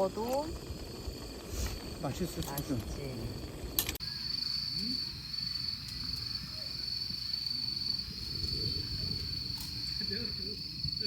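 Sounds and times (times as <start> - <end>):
crickets chirring: 0.0 - 11.0
low background rumble: 0.0 - 11.0.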